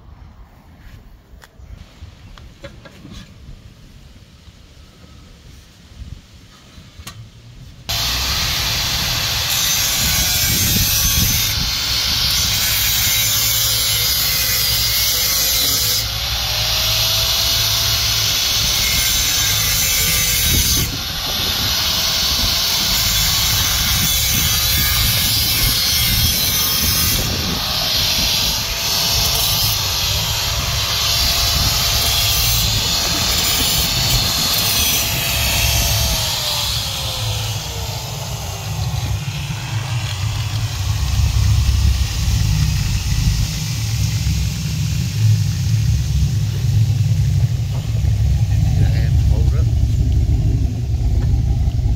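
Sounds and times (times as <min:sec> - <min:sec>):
angle grinder cutting metal pipe: 0:07.9 - 0:50.4.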